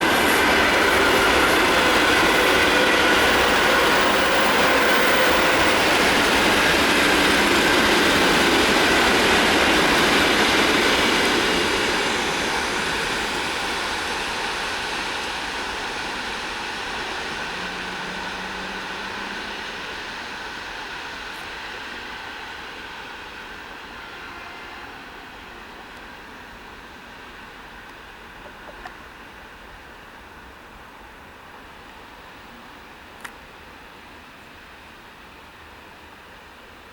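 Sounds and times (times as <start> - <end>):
train wheels rattling on rails: 0.0 - 36.9.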